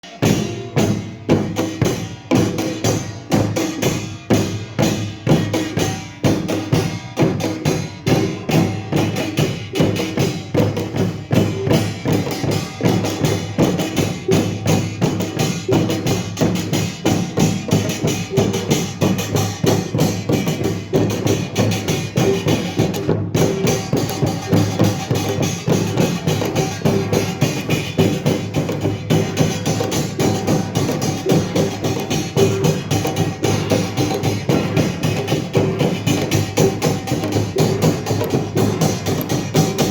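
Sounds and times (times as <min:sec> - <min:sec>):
percussion ensemble drums and gongs: 0:00.0 - 0:39.9.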